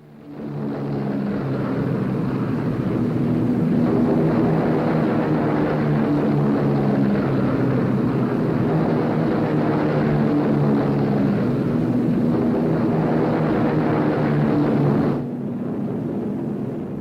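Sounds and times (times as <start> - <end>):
propeller plane engines droning: 0.0 - 17.0.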